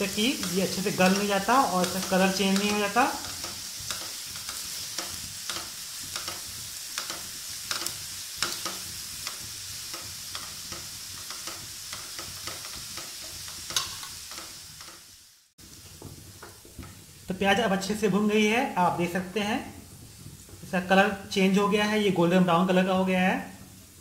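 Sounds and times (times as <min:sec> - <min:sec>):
wooden spatula scraping a pan: 0:00.0 - 0:18.3, 0:19.0 - 0:22.0
onions sizzling in a pan: 0:00.0 - 0:24.0.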